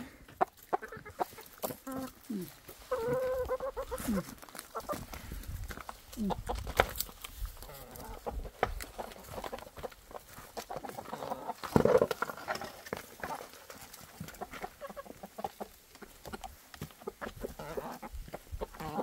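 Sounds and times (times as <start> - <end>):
hens clucking: 0.0 - 19.0
pecking ticks and rustles: 0.3 - 19.0.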